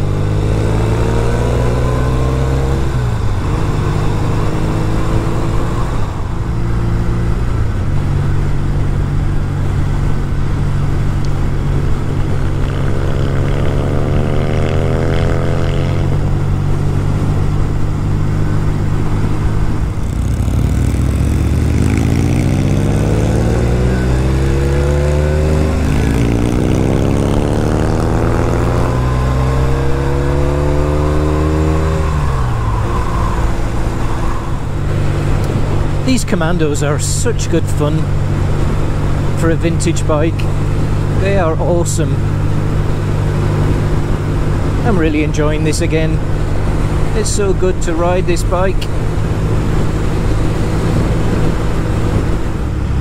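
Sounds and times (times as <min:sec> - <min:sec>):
motorcycle engine running: 0:00.0 - 0:32.0, 0:32.6 - 0:53.0.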